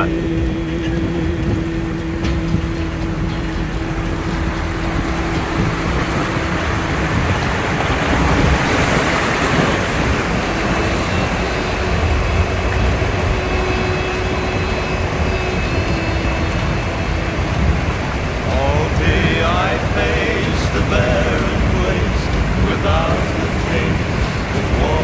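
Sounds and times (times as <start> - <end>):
low engine rumble: 0.0 - 25.0
water rushing around vehicle: 0.0 - 25.0.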